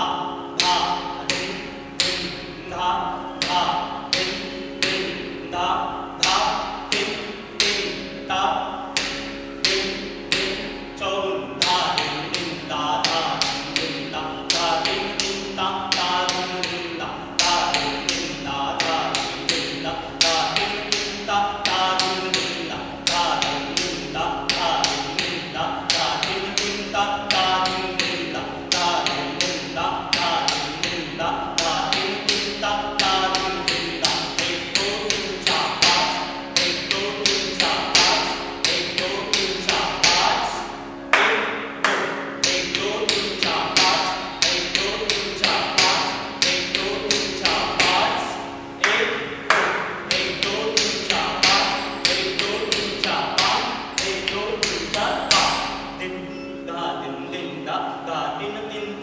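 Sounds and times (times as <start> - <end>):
steady drone tone: 0.0 - 59.0.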